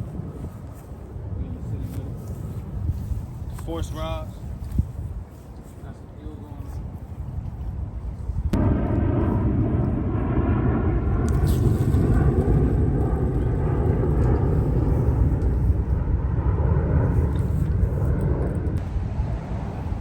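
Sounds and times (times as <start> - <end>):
engine running with low rumble: 0.0 - 20.0
steady engine whine: 0.0 - 20.0.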